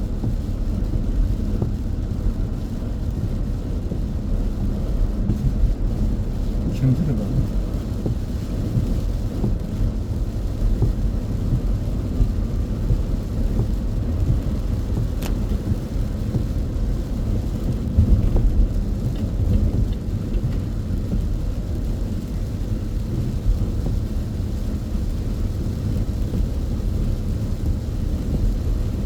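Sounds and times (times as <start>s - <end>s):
rain on a car: 0.0s - 29.0s
road and tyre noise: 0.0s - 29.0s.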